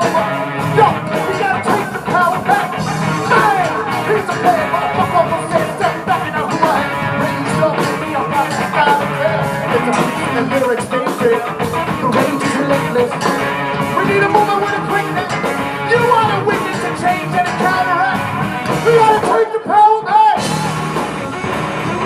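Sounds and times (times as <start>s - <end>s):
drum beat: 0.0s - 19.7s, 20.4s - 22.0s
person singing: 0.0s - 22.0s
rock band playing live: 0.0s - 22.0s.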